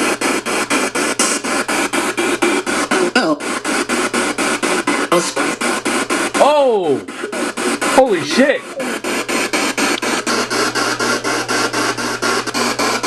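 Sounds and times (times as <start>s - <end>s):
pulsing radio static hiss: 0.0s - 13.0s.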